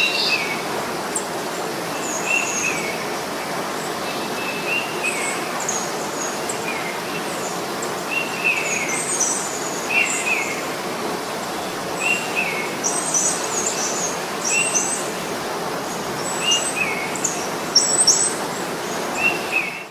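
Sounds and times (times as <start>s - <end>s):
steady background hiss: 0.0s - 19.9s.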